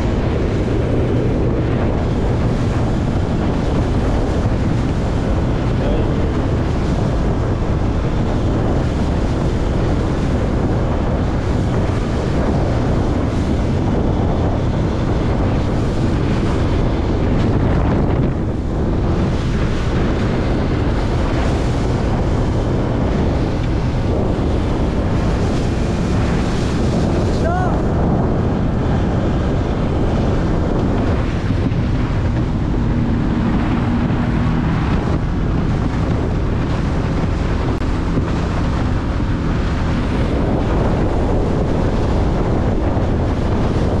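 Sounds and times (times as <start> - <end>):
motorboat engine running: 0.0 - 44.0
water rushing past hull: 0.0 - 44.0
wind on microphone: 0.0 - 44.0.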